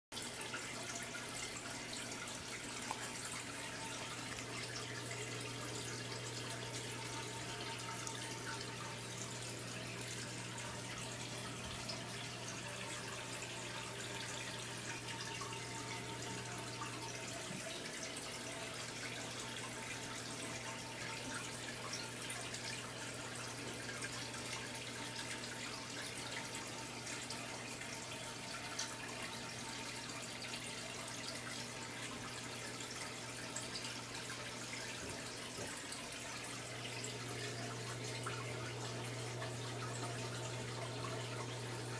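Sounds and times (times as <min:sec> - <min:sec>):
aquarium water trickling: 0:00.1 - 0:41.9.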